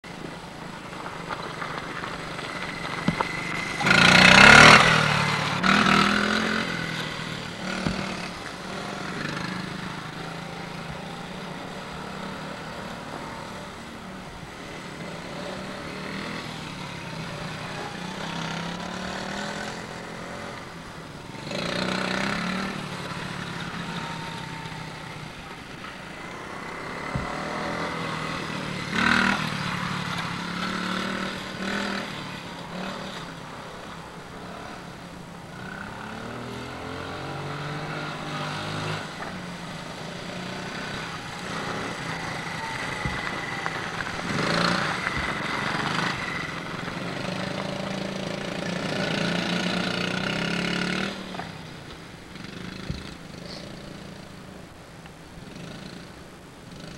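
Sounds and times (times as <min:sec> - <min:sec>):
small motorcycle engines buzzing: 0:00.0 - 0:56.9.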